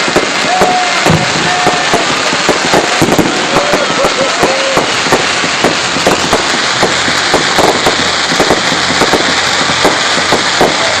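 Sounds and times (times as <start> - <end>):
fireworks crackling hiss: 0.0 - 11.0
fireworks popping and banging: 0.0 - 11.0.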